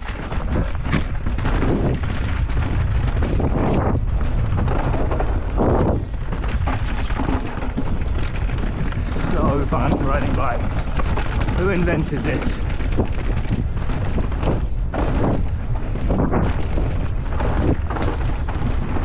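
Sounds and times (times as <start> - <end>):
bike knocks and rattles: 0.0 - 19.0
electric mountain bike rumble: 0.0 - 19.0
tyres on dirt: 0.0 - 19.0
wind buffeting microphone: 0.0 - 19.0.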